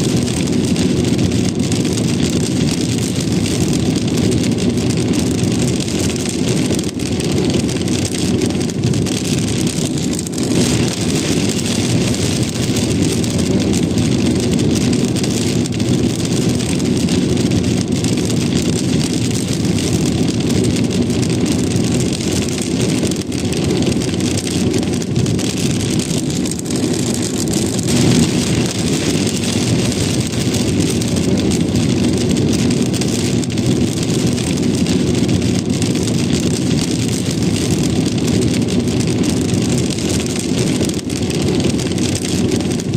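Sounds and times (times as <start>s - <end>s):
car driving on road: 0.0s - 42.9s
rain tapping on a car: 0.0s - 42.9s.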